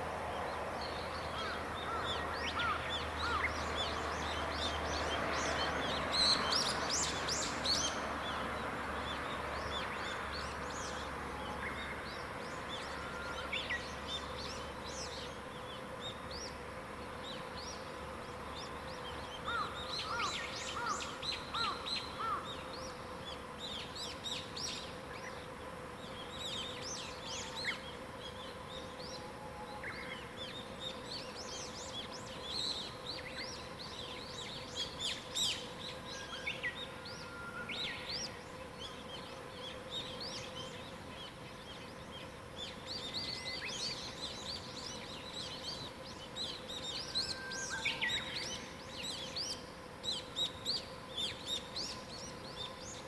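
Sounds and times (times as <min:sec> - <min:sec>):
faint steady hum: 0:00.0 - 0:53.0
songbirds chirping: 0:00.0 - 0:53.0.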